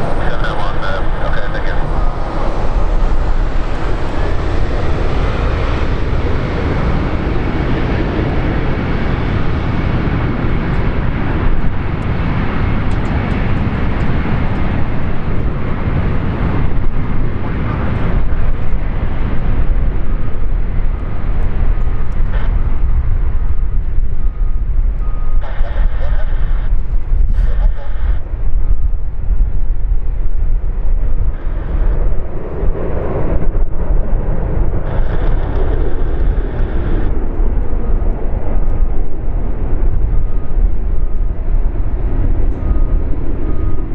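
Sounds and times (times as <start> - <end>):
jet engines running: 0.0 - 43.9
wind buffeting microphone: 0.0 - 43.9.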